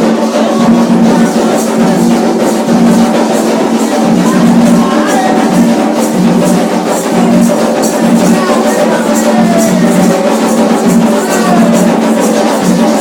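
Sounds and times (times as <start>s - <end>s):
drums and hand percussion: 0.0s - 13.0s.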